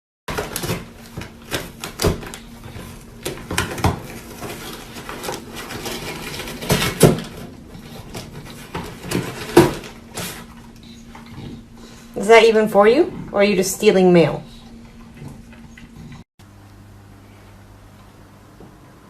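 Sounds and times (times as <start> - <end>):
faint steady hum: 0.3 - 19.0.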